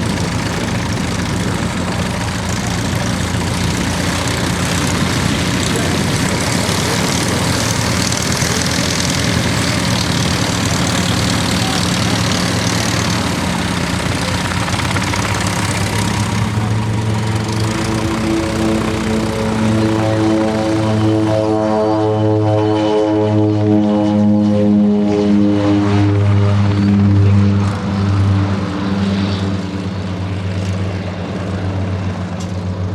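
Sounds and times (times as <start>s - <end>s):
propeller airplane engine: 0.0s - 32.9s.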